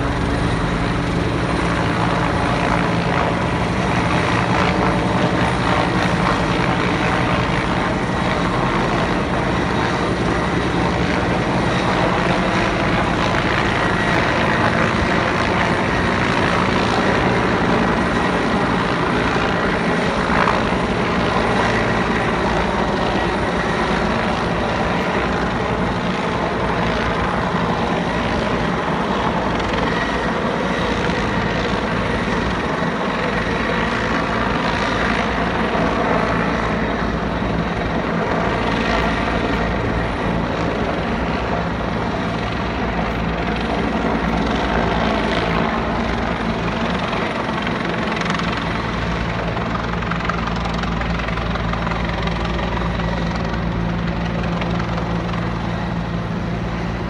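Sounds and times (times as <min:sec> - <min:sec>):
helicopter rotor beat: 0:00.0 - 0:57.0.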